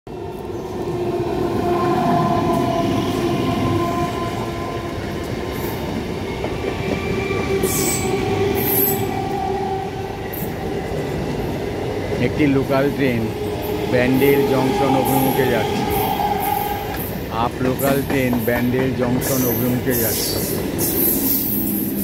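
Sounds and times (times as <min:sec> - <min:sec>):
train carriages rumbling over rails: 0:00.1 - 0:22.0.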